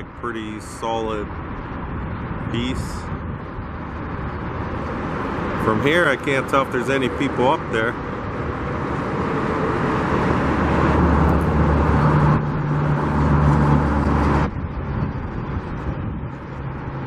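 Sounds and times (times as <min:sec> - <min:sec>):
road noise rushing: 0:00.0 - 0:17.0
vehicle engine humming: 0:00.0 - 0:17.0.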